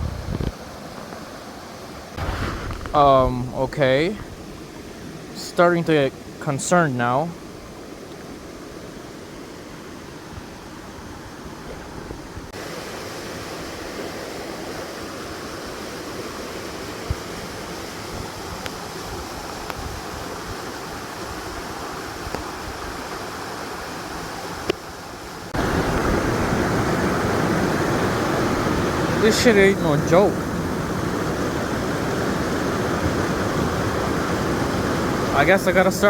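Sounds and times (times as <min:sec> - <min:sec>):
water rushing: 0:00.6 - 0:36.0.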